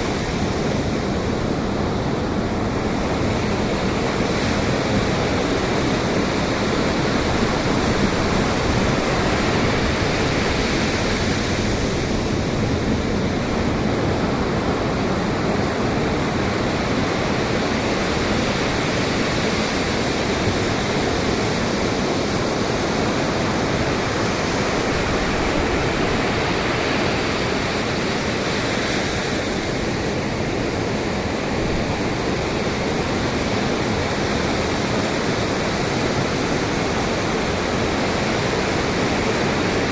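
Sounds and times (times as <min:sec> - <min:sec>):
waves breaking: 0:00.0 - 0:39.9
wind: 0:00.0 - 0:39.9.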